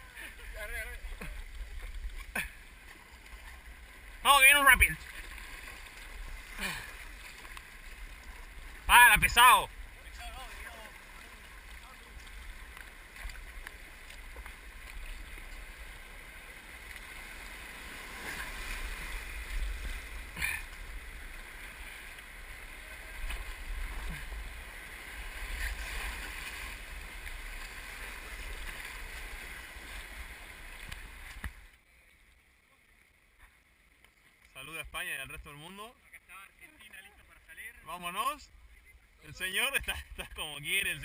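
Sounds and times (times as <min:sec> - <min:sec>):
river water rushing and splashing: 0:00.0 - 0:34.0
paddle splashes: 0:00.0 - 0:34.6.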